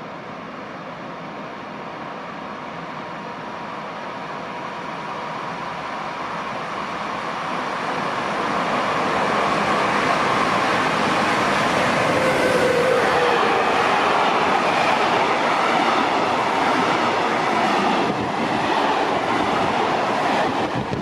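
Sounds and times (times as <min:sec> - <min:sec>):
train approaching: 0:00.0 - 0:21.0.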